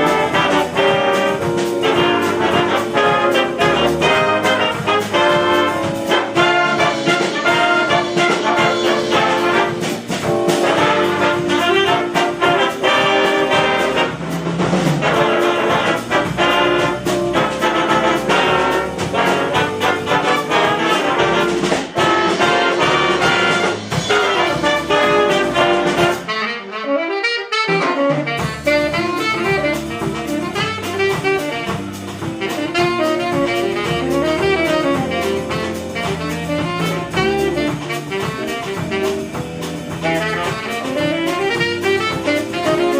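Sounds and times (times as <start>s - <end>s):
big band jazz: 0.0s - 42.9s.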